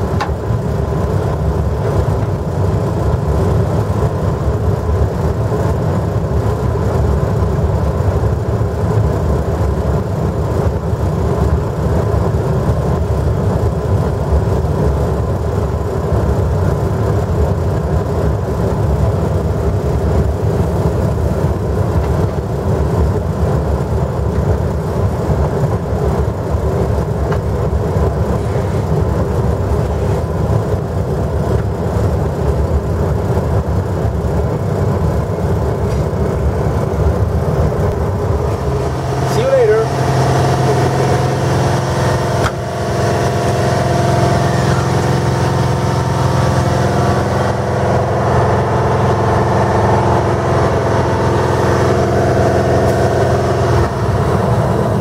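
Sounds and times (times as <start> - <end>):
constant hum: 0.0 - 55.0
electric locomotive rumbling: 0.0 - 55.0.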